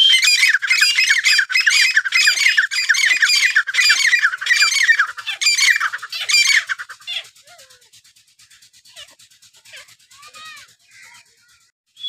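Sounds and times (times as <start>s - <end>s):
partridges calling shrilly: 0.0s - 12.0s.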